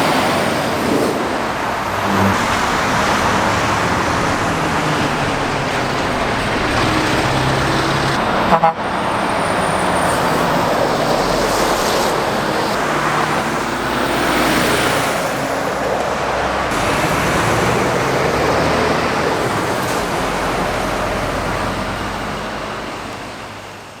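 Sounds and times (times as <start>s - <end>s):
vehicles passing at speed: 0.0s - 24.0s.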